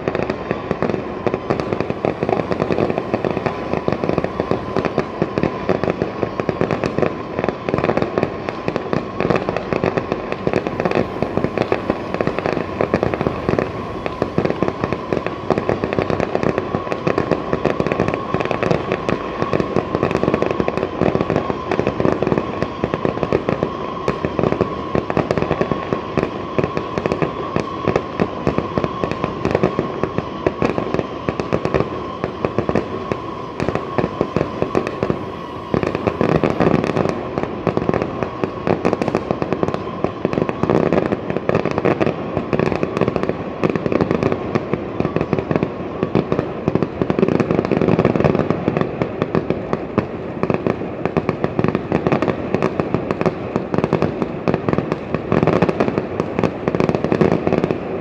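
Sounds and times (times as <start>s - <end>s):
fireworks popping and crackling: 0.0s - 58.0s.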